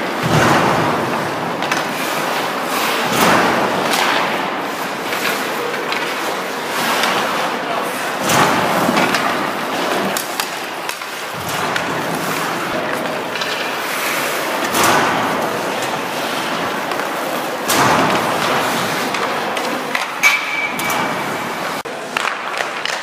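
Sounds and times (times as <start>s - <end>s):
skates scraping on ice: 0.0s - 23.0s.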